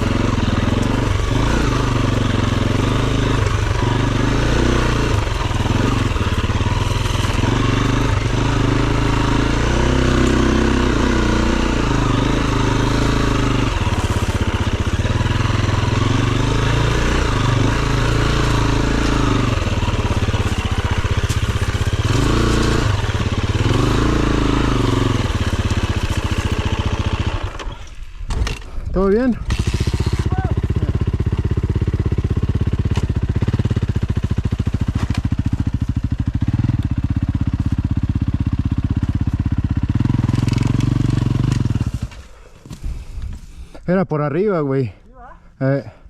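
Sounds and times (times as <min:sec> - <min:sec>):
dirt bike engine revving: 0:00.0 - 0:42.5.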